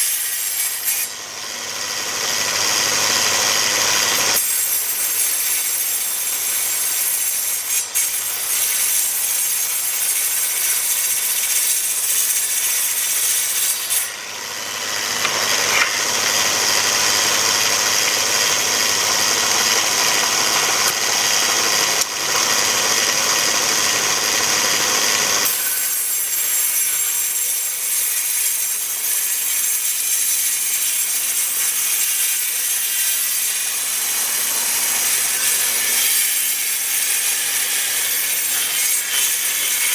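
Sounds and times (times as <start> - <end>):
power tool cutting wood: 0.0 - 39.9.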